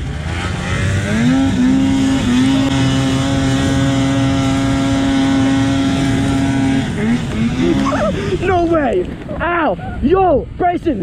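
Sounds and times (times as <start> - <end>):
snowmobile engine at full throttle: 0.0 - 9.3.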